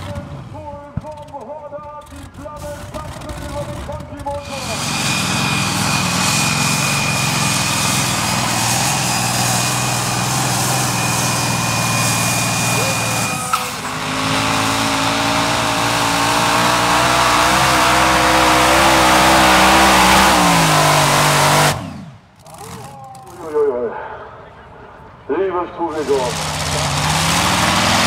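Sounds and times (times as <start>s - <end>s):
tractor engine at full power: 0.0s - 28.0s
engine pitch rising and wavering: 2.3s - 23.0s, 26.0s - 28.0s.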